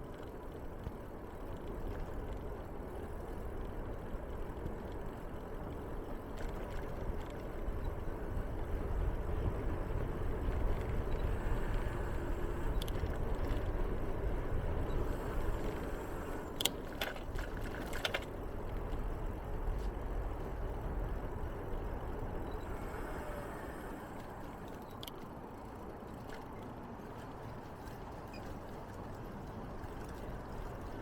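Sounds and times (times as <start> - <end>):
bicycle rolling rumble: 0.0 - 31.0.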